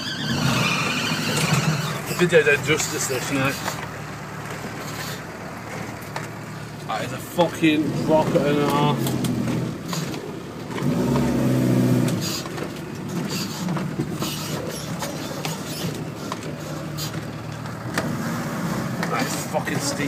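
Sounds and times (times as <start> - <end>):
diesel engine pulling hard: 0.0 - 20.0
vehicle knocks and rattles: 1.2 - 20.0.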